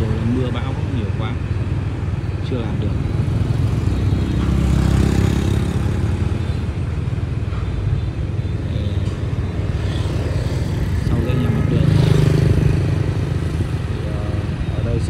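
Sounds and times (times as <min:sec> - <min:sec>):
low rumble of road traffic: 0:00.0 - 0:15.0
vehicle engine: 0:00.0 - 0:15.0.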